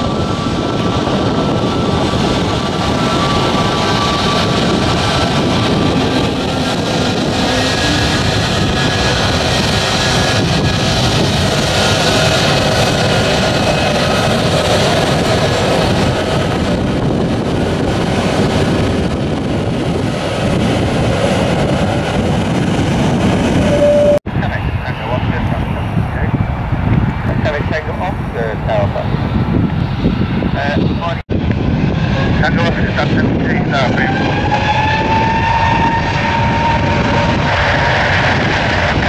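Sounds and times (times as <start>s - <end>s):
jet engine roar with whine: 0.0s - 39.0s.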